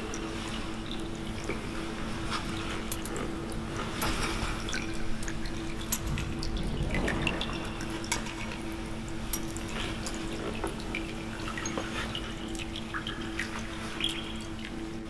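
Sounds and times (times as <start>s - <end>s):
steady low hum: 0.0s - 15.0s
water trickling: 0.0s - 15.0s.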